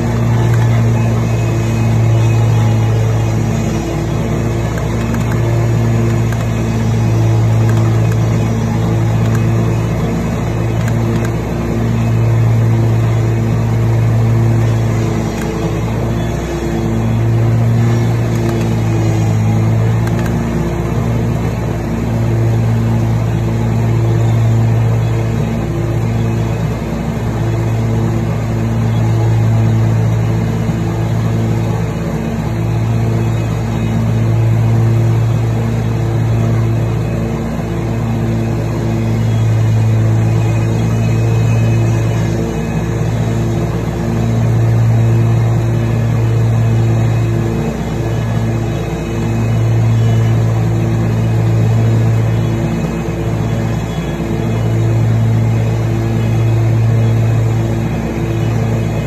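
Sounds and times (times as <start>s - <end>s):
lawn mower engine droning: 0.0s - 59.0s.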